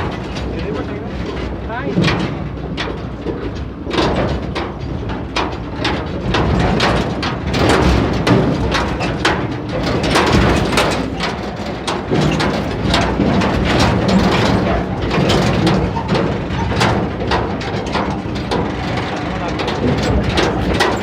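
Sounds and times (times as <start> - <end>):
knocks and rattles: 0.0 - 21.0
tractor engine running: 0.0 - 21.0.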